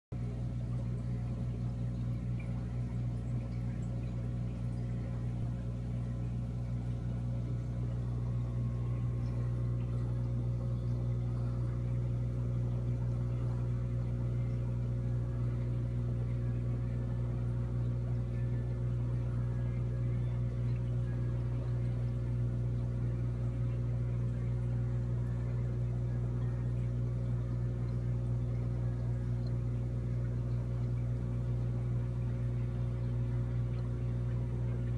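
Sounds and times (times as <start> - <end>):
aquarium equipment mains hum: 0.1 - 34.9.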